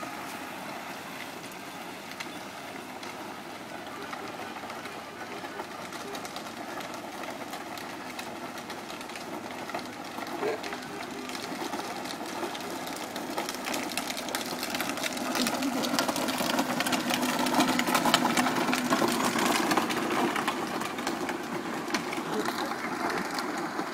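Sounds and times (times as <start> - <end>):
tyres crunching on gravel: 0.0 - 23.9.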